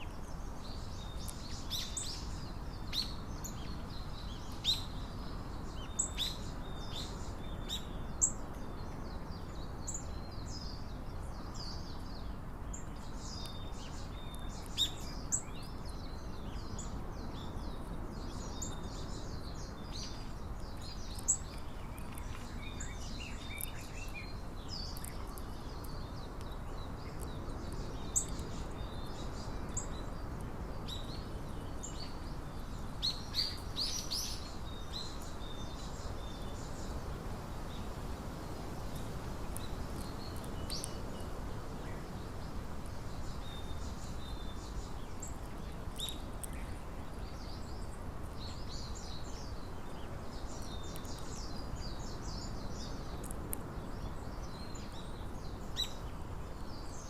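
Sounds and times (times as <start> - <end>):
small songbirds chirping: 0.0 - 57.0
steady low outdoor hiss: 0.0 - 57.0.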